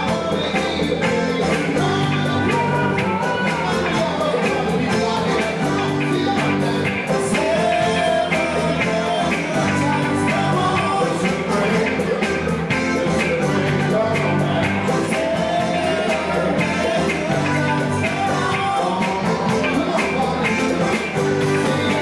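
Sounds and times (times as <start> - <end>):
live band playing rock and roll: 0.0 - 22.0
steady drum beat: 0.0 - 22.0.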